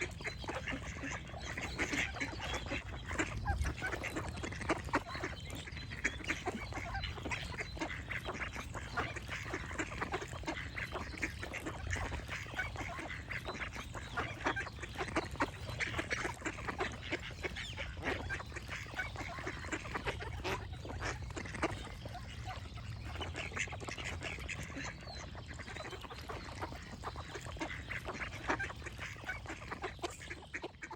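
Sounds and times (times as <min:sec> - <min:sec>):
ducks quacking: 0:00.0 - 0:30.9.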